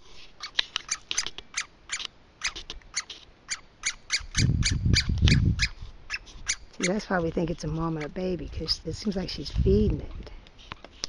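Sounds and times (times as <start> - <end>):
young woodpecker begging calls: 0.4 - 11.0.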